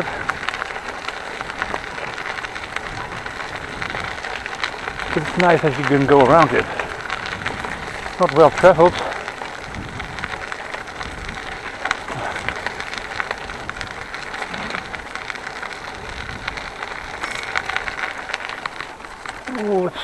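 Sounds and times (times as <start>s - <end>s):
bicycle tyres on rough path: 0.0s - 20.0s.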